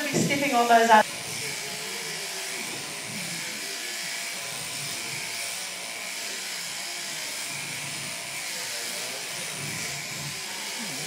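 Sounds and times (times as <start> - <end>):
sheep shearing handpiece running: 0.0 - 11.0.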